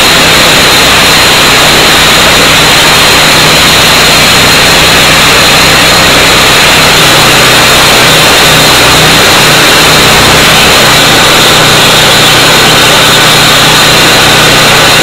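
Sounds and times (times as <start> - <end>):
concrete saw running: 0.0 - 15.0.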